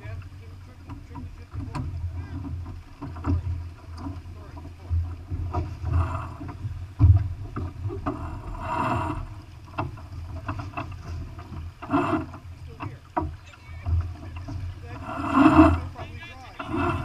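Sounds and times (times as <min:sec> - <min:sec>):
water rushing past hull: 0:00.0 - 0:17.0
wave breaking along hull: 0:00.0 - 0:17.0.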